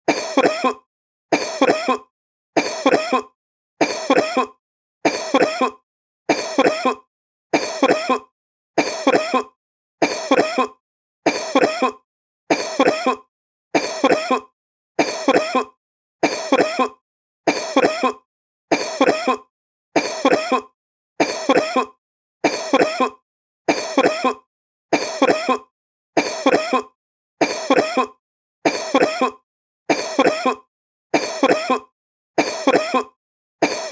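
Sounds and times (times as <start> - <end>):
man coughing: 0.1 - 0.8, 1.4 - 7.0, 7.6 - 24.4, 25.0 - 30.6, 31.2 - 33.9.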